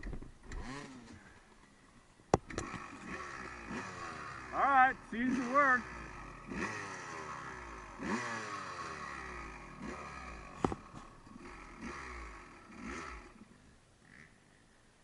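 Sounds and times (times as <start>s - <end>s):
engine throttle blips: 2.4s - 14.6s.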